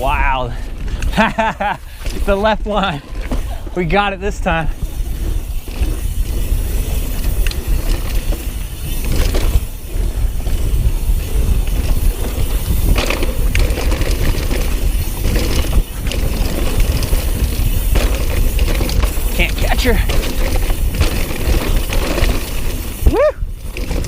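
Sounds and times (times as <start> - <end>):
bike rattling: 0.0 - 24.0
tyres rumbling over dirt: 0.0 - 24.0
wind buffeting microphone: 0.0 - 24.0.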